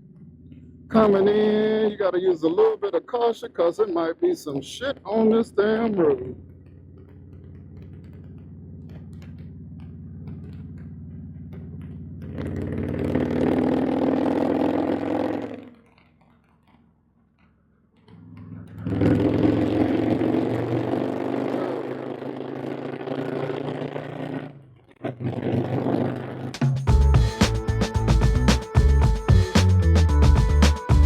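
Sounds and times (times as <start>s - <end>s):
motorcycle engine accelerating: 0.0s - 2.0s, 4.6s - 16.9s, 18.0s - 31.0s.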